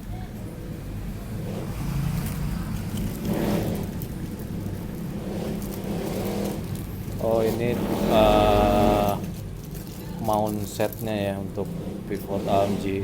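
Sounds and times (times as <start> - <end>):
small parts clicking and rustling: 2.0 - 13.0.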